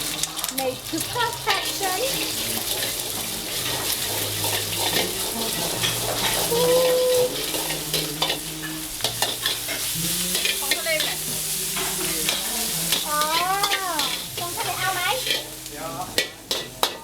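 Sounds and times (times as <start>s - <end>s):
egg sizzling in oil: 0.0s - 17.0s
metal spatula scraping a pan: 0.8s - 17.0s.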